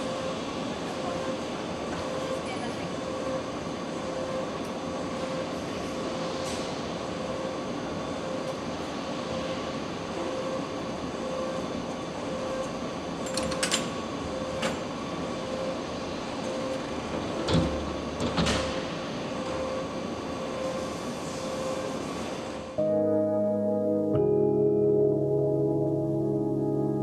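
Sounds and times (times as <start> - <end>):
steady machinery hum: 0.0 - 27.0.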